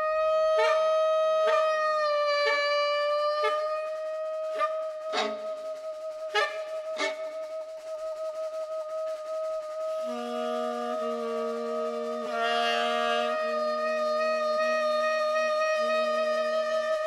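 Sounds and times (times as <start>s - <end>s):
tenor saxophone long notes: 0.0s - 7.4s, 9.8s - 17.0s.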